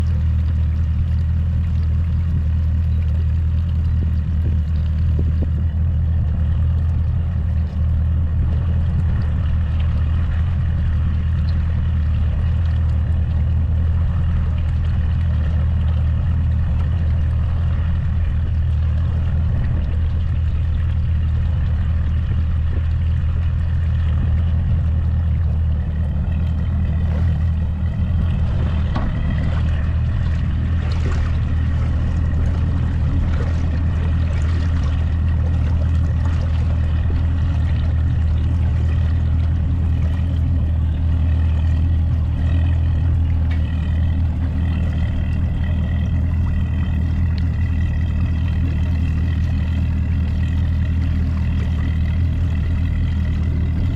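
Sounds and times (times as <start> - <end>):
outboard motor droning: 0.0 - 53.9.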